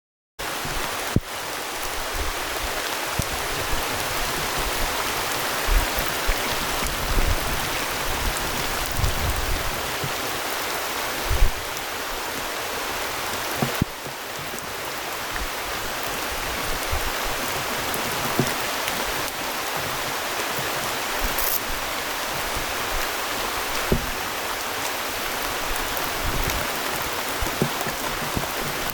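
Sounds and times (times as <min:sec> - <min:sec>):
rain falling on river: 0:00.4 - 0:28.9.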